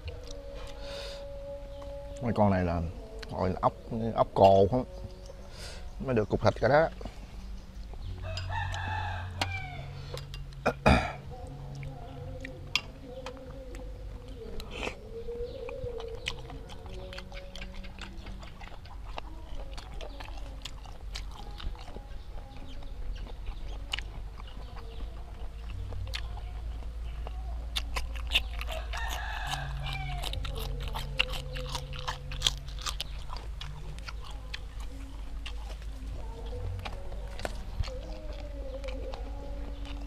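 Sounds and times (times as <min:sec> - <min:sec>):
chewing with wet mouth clicks: 0:00.0 - 0:02.4, 0:03.0 - 0:03.6, 0:04.4 - 0:05.5, 0:06.2 - 0:10.8, 0:11.4 - 0:40.0.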